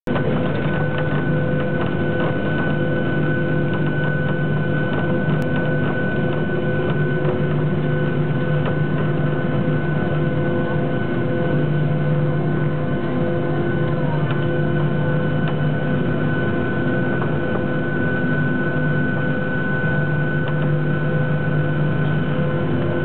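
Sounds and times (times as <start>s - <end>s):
jet engines humming in cabin: 0.1s - 23.0s.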